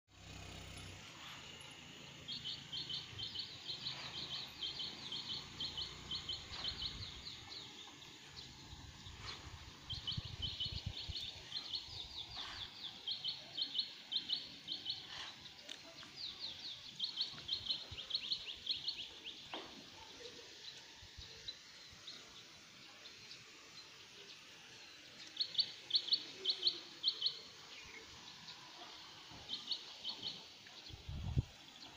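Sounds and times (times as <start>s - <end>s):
small bird chirping: 0.1s - 22.2s, 24.2s - 31.9s
open-air background hiss: 0.1s - 31.9s.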